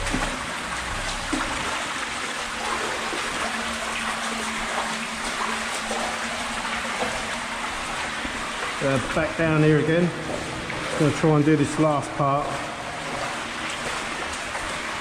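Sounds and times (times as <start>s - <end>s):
small water splashes: 0.0s - 15.0s
water rushing through tunnel: 0.0s - 15.0s.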